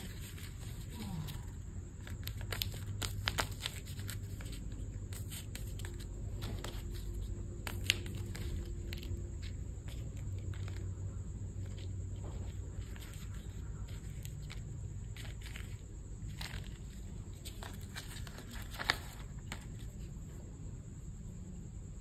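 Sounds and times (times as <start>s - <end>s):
paper and packaging crinkling: 0.0s - 20.1s
steady low hum: 0.0s - 22.0s.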